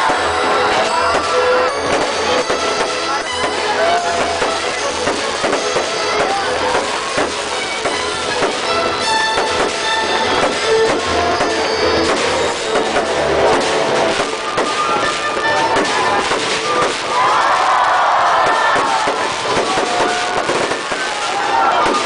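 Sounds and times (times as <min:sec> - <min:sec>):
firework bangs and crackles: 0:00.0 - 0:22.0.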